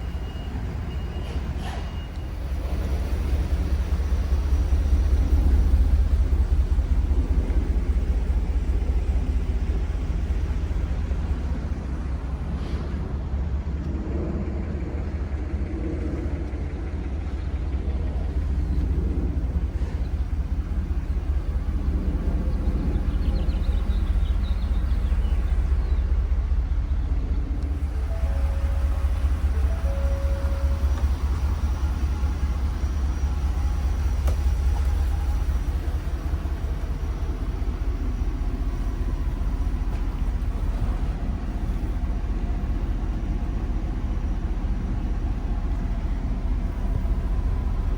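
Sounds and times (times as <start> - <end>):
truck engine rumbling: 0.0 - 47.9.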